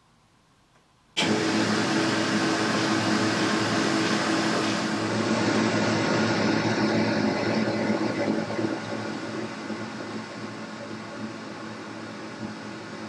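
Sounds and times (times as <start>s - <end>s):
lathe motor running: 1.2s - 13.0s.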